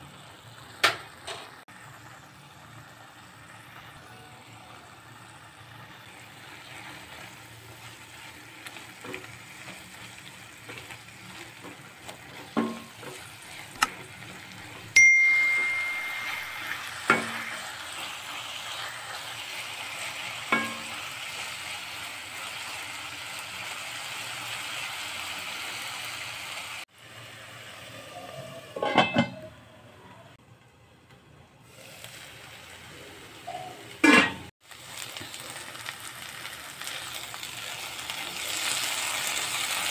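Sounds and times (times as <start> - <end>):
vegetables sizzling in a pan: 0.0 - 28.9, 31.6 - 39.9.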